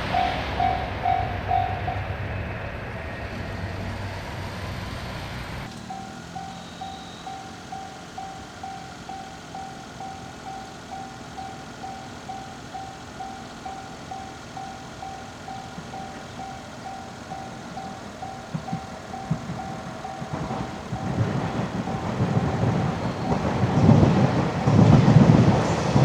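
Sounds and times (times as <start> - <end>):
level crossing warning bell: 0.0 - 2.3, 5.7 - 26.0.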